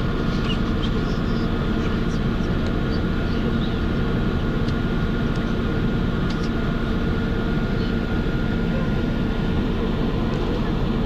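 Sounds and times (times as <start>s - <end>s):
vehicle interior rumble with whine: 0.0s - 11.0s.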